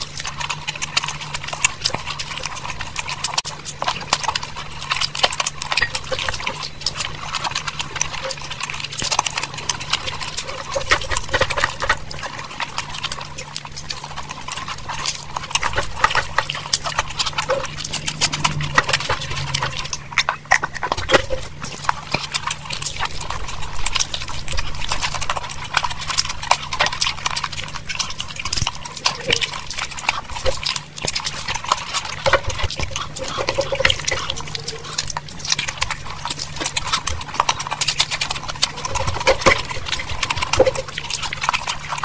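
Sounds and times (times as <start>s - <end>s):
chewing with lip smacking: 0.0s - 42.0s.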